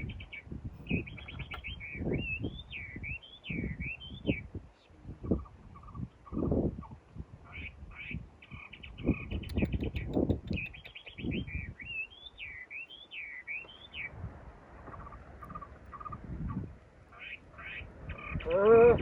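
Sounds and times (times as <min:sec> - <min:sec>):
bird song notes: 0:00.0 - 0:14.2, 0:14.8 - 0:19.0
small birds chirping: 0:00.0 - 0:14.2, 0:14.8 - 0:19.0.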